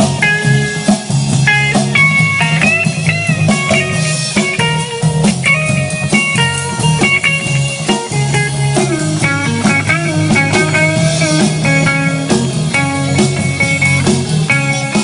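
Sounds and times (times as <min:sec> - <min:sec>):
electric guitar notes: 0:00.0 - 0:15.0
steady drum beat: 0:00.0 - 0:15.0.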